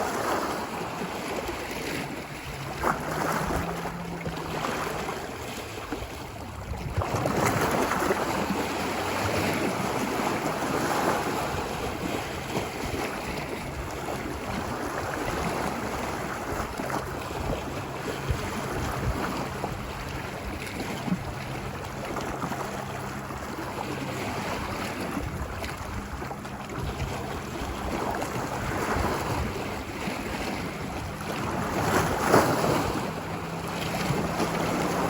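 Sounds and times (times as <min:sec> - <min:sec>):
ocean surf washing onto beach: 0:00.0 - 0:35.0.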